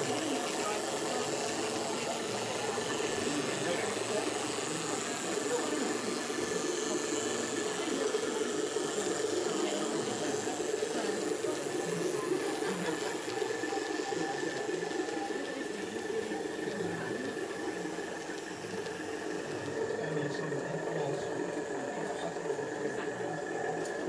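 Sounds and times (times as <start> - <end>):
crowd chatter: 0.0 - 24.0.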